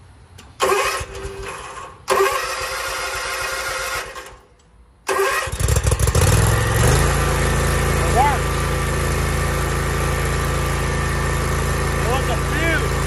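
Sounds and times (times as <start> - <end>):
mower engine running steadily: 0.3 - 4.4, 5.3 - 13.0
mower engine cranking on starter: 0.3 - 13.0.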